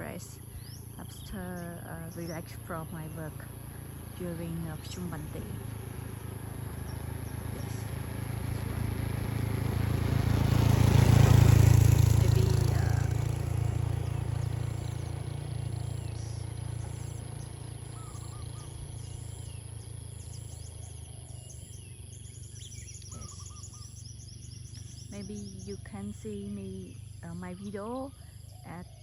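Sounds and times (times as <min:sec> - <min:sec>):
birds chirping faintly: 0:00.0 - 0:29.0.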